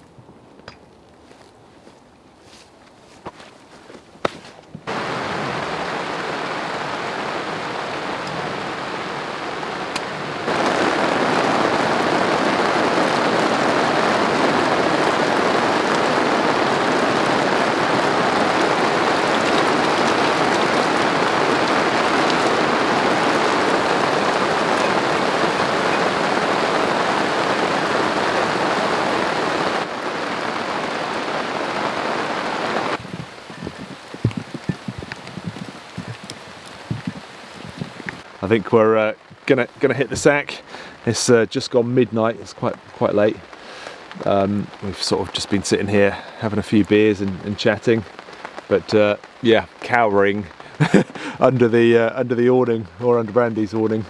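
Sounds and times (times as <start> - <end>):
heavy rain: 4.8 - 54.0.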